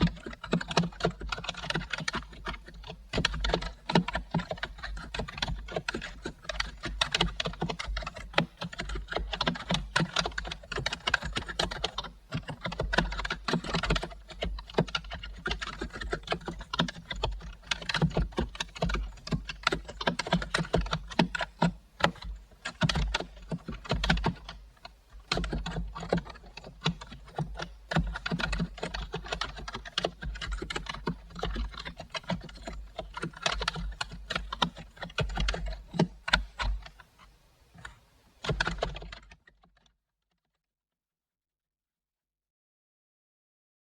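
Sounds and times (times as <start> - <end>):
typing on keyboard: 0.0 - 37.2, 37.8 - 39.6.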